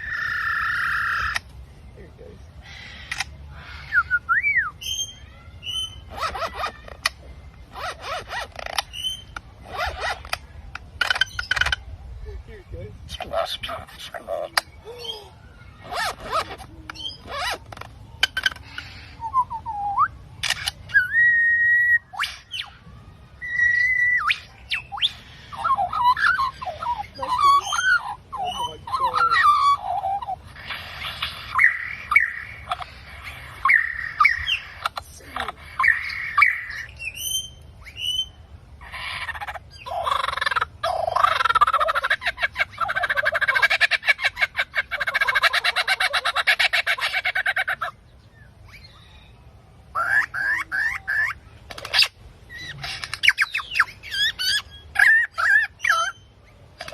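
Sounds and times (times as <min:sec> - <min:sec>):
birds chattering: 0:00.0 - 0:56.9
birds whistling: 0:00.0 - 0:56.9.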